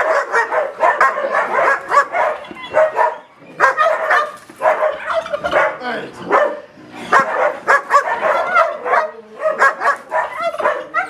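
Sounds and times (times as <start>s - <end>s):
dogs barking aggressively: 0.0s - 11.0s.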